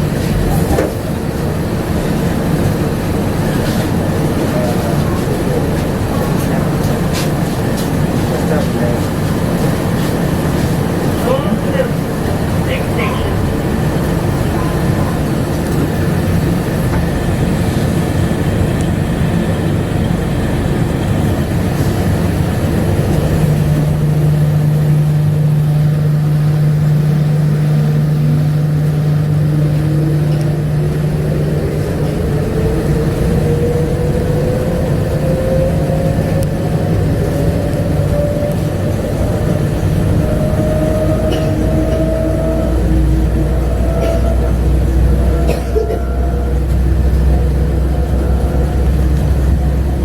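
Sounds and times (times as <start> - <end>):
train low drone: 0.0 - 50.0.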